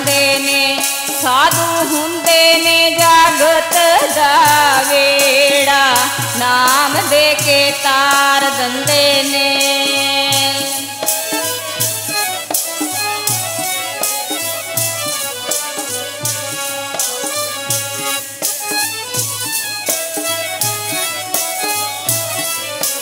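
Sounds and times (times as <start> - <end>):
hand drum beat: 0.0 - 23.0
harmonium melody: 0.0 - 23.0.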